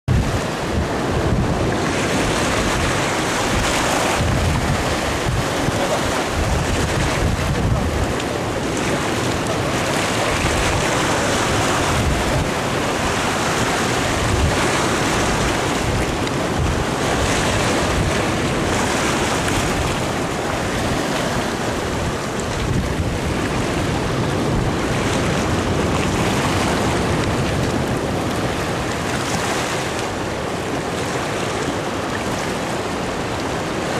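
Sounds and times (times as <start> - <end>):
sea waves washing over rocks: 0.1 - 33.9
wind buffeting microphone: 0.1 - 33.9.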